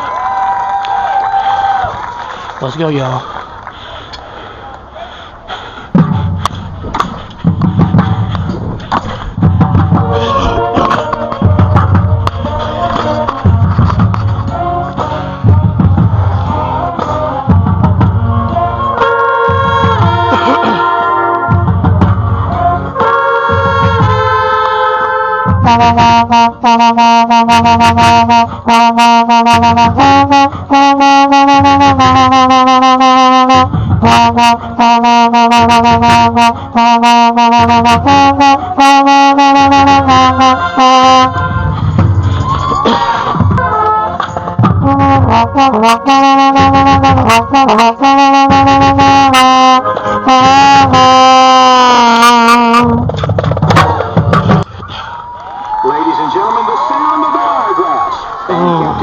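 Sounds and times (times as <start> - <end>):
marching band brass playing: 5.9 - 54.9.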